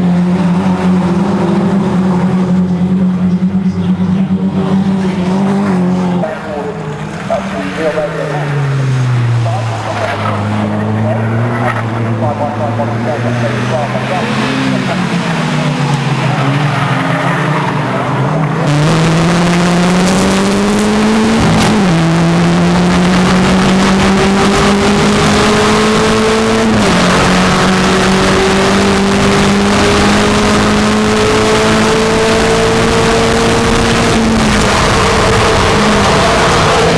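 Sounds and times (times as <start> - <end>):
racing car engine accelerating: 0.0 - 36.9.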